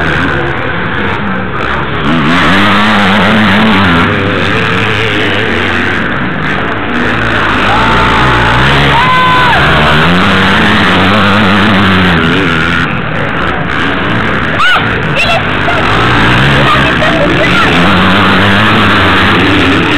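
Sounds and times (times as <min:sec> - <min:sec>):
motocross bike engines revving: 0:00.0 - 0:19.9.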